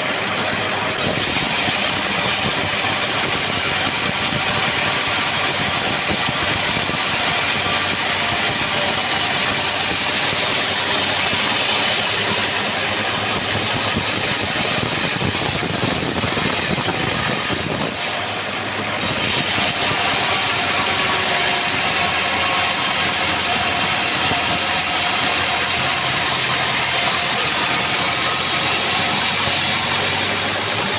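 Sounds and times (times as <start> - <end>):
bandsaw sawmill running: 0.0 - 30.9.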